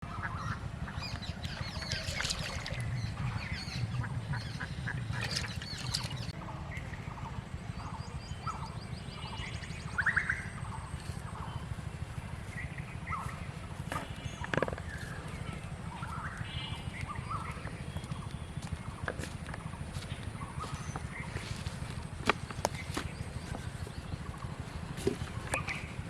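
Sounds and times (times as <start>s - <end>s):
birds chirping: 0.0s - 26.0s
low rumble: 0.0s - 26.0s.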